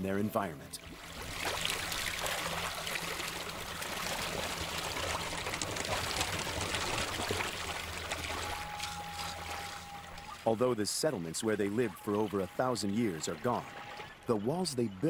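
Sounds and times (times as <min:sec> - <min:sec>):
water trickling and splashing: 0:00.7 - 0:15.0.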